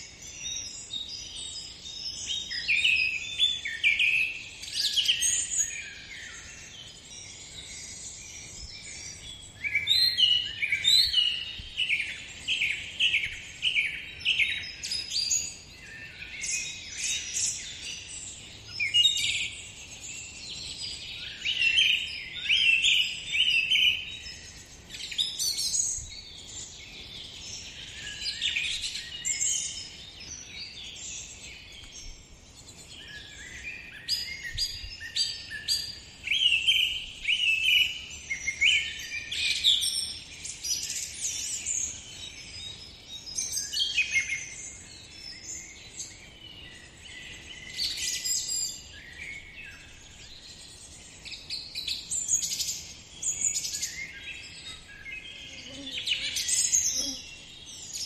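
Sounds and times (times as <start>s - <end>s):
small birds chirping and singing: 0.0s - 58.0s.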